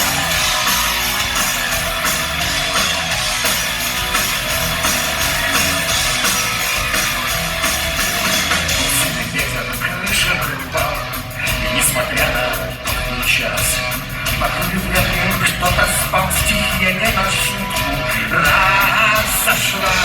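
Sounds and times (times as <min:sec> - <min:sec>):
drum beat: 0:00.0 - 0:20.0
electric guitar: 0:00.0 - 0:20.0.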